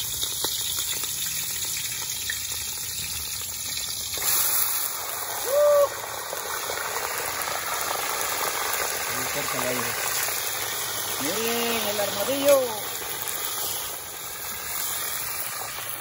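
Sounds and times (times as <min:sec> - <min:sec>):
hot oil sizzling in a frying pan: 0:00.0 - 0:16.0.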